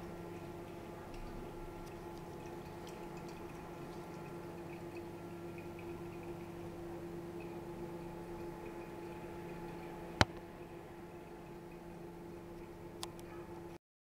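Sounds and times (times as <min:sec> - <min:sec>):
aquarium pumps humming: 0:00.0 - 0:13.7
faint dripping and trickling water: 0:00.0 - 0:13.8.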